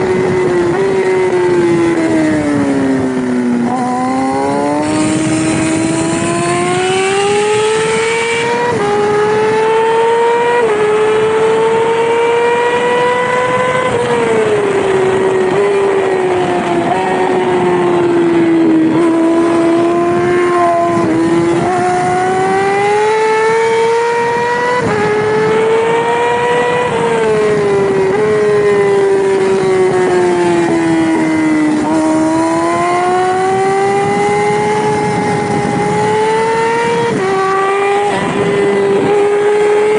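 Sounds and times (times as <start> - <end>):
motorcycle engine revving with gear shifts: 0.0 - 39.9.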